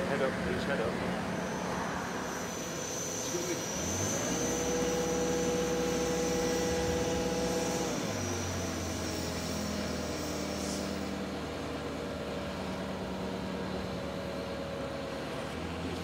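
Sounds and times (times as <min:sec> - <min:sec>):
crane engine running: 0:00.0 - 0:16.0.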